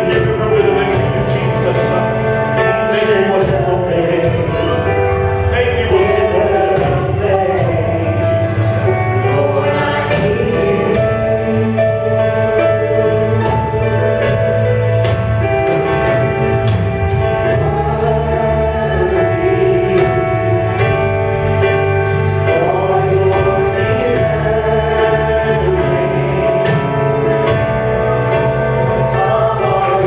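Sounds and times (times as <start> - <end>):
gospel singers: 0.0 - 30.0
live band chords and bass: 0.0 - 30.0.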